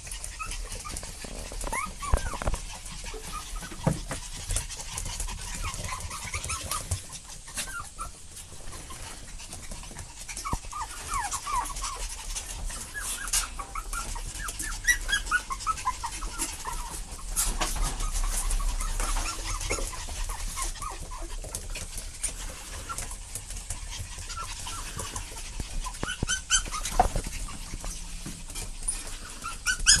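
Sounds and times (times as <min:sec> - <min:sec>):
puppies whimpering: 0:00.0 - 0:30.0.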